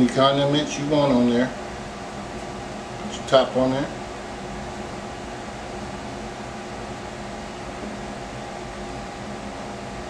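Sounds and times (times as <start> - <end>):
fan humming and hissing: 0.0 - 10.0.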